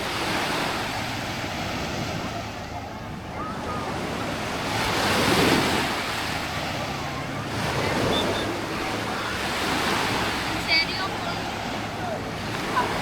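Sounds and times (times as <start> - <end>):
small waves breaking on shore: 0.0 - 13.0.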